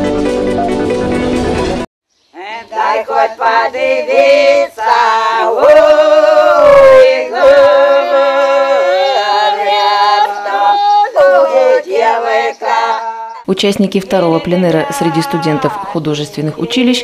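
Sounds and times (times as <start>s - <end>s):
women singing in harmony: 2.4s - 13.4s, 14.1s - 17.0s.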